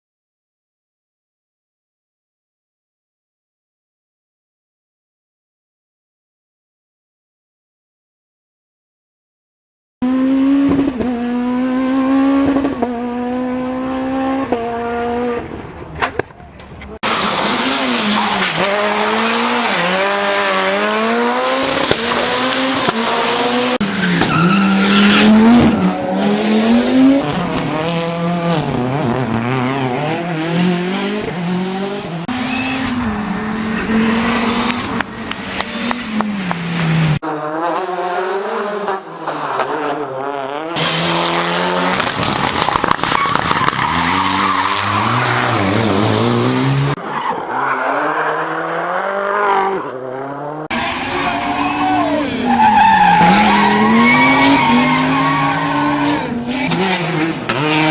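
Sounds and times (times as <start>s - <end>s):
rally car engines revving: 10.0s - 57.9s
tyre and road noise: 10.2s - 38.0s, 39.2s - 57.9s.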